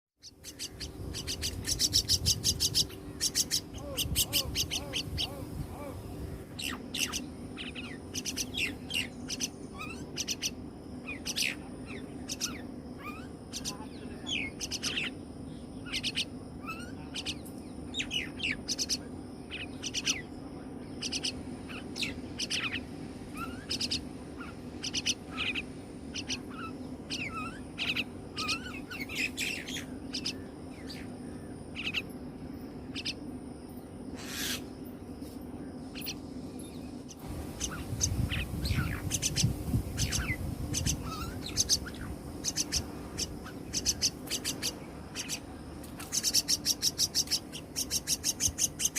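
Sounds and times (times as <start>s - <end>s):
bird chicks chirping: 0.2s - 34.8s, 35.8s - 48.9s.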